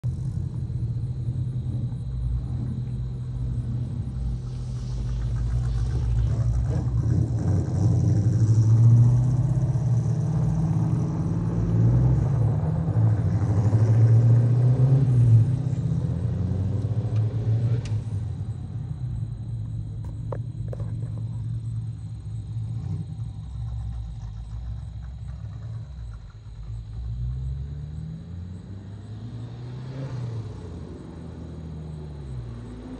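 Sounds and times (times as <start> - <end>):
low car engine rumble: 0.0 - 32.9.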